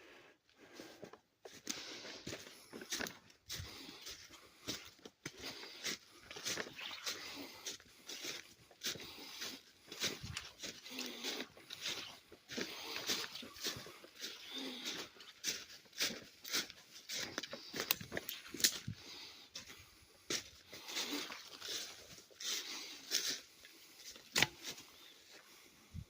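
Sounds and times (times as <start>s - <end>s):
footsteps crunching through brush: 0.7s - 26.0s.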